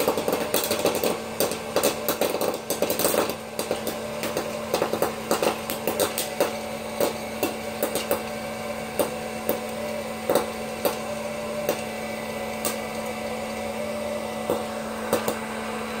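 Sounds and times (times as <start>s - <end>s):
popcorn maker motor hum: 0.0s - 16.0s
popcorn popping: 0.0s - 16.0s.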